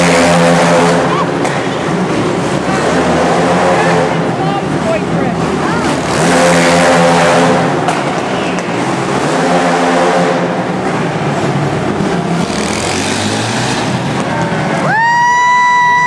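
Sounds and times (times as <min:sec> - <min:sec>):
quad engines revving past: 0:00.0 - 0:14.9.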